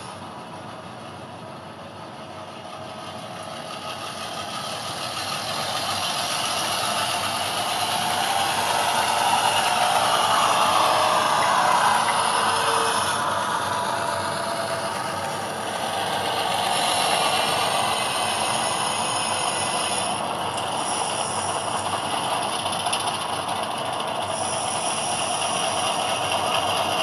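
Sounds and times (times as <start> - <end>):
diesel engine sound from small speaker: 0.0 - 27.0
model train wheels rattling on track: 0.0 - 27.0.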